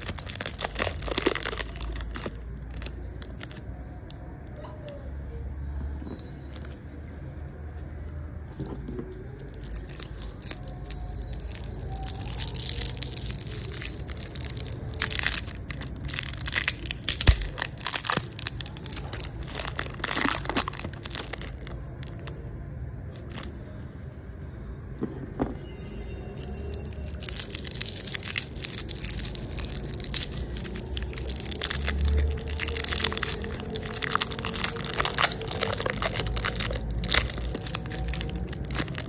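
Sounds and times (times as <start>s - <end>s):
candy wrappers crinkling: 0.0s - 4.6s, 6.5s - 7.0s, 8.9s - 22.4s, 23.0s - 24.0s, 26.3s - 39.0s.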